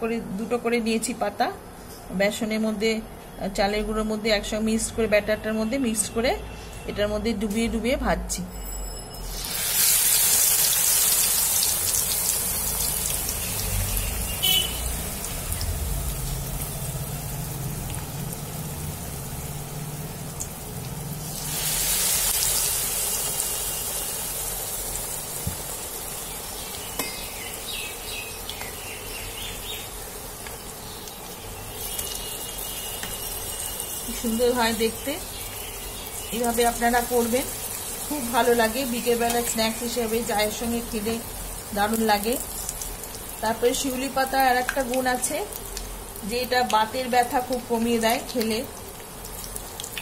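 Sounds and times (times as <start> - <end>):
fritters sizzling in hot oil: 9.1 - 50.0.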